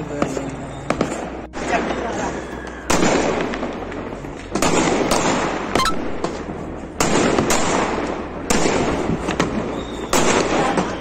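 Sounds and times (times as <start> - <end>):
distant explosions crackling: 0.0 - 11.0
fireworks bangs echoing: 0.0 - 11.0.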